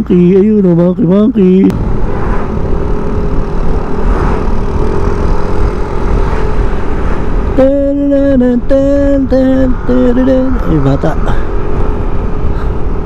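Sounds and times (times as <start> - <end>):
scooter engine running: 1.7 - 13.0
wind rush on microphone: 1.7 - 13.0.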